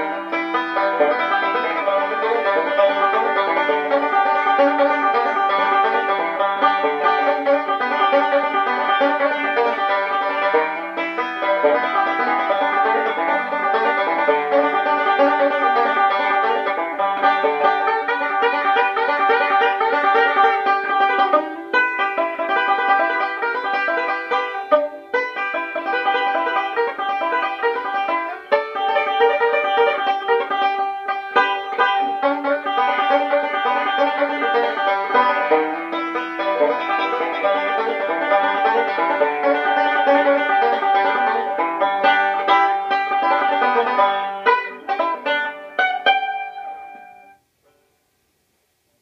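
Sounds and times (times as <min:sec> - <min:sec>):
banjo picking a tune: 0:00.0 - 0:47.9.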